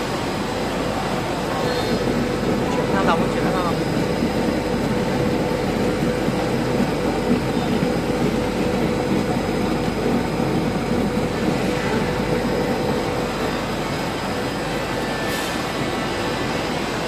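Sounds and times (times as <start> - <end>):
machine drone with hum: 0.0 - 17.0.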